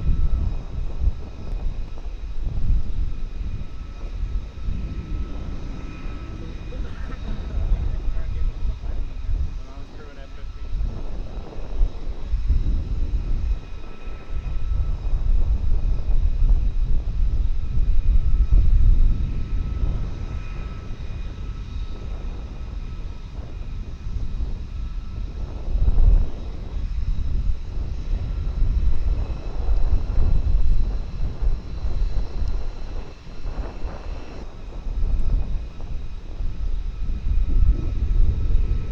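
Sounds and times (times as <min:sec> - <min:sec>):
faint steady whine: 0:00.0 - 0:38.9
jet engines rumbling: 0:00.0 - 0:38.9.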